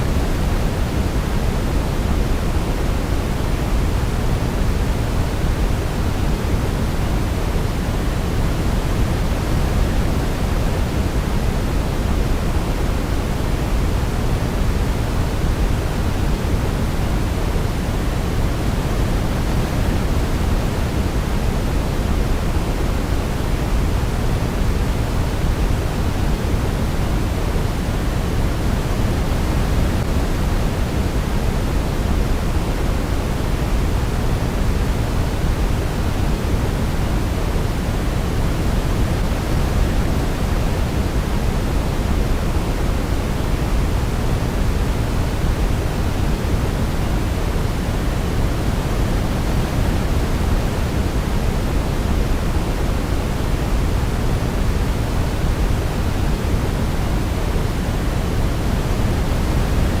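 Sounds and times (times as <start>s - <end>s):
rushing pink noise hiss: 0.0s - 60.0s.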